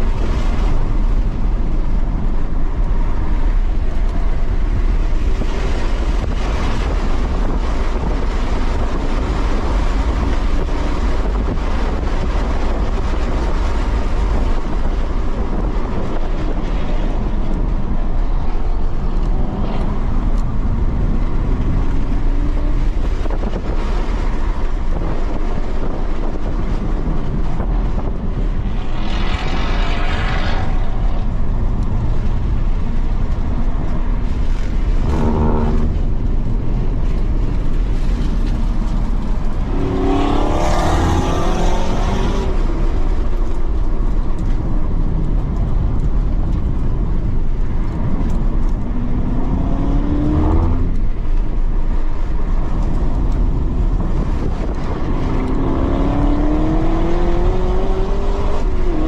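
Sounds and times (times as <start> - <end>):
road tyre and wind noise: 0.0 - 59.0.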